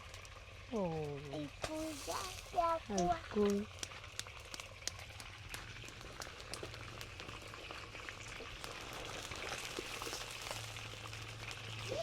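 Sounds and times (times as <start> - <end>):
food bubbling and sizzling: 0.0 - 12.0
pops and crackles: 0.0 - 12.0.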